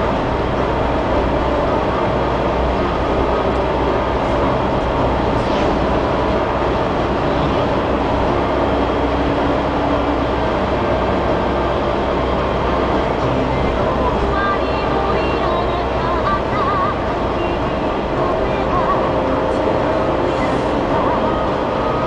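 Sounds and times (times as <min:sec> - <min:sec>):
car engine hum inside cabin: 0:00.0 - 0:22.0
road noise: 0:00.0 - 0:22.0.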